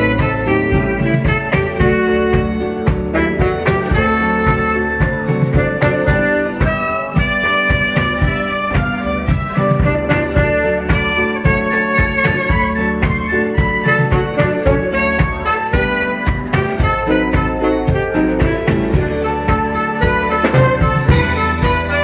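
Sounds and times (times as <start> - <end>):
dance band playing tango: 0.0 - 22.0.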